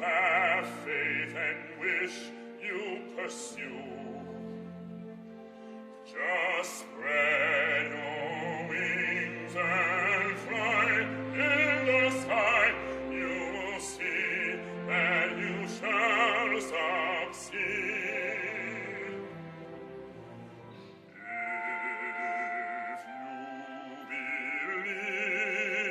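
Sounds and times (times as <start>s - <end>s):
operatic singing with vibrato: 0.0s - 25.9s
sustained instrumental accompaniment: 0.0s - 25.9s.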